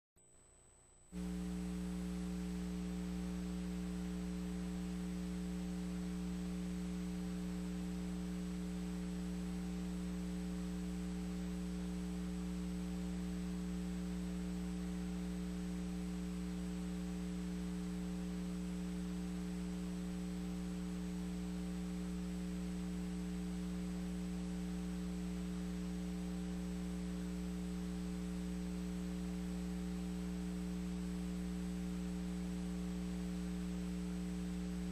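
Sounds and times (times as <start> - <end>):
electrical mains hum: 0.2 - 34.9
faint hiss: 0.2 - 34.9.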